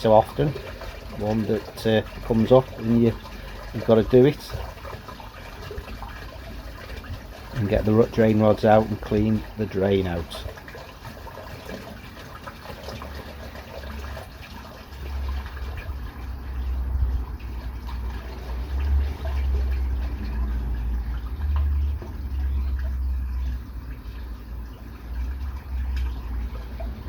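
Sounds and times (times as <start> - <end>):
water gushing through a drain: 0.0 - 27.0.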